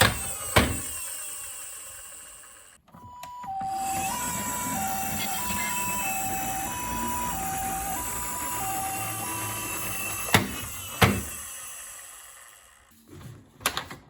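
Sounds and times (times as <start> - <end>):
toy two-tone siren: 0.0 - 12.8.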